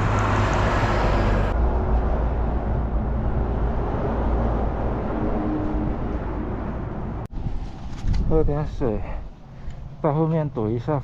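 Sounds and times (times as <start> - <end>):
strong wind buffeting microphone: 0.0 - 9.4.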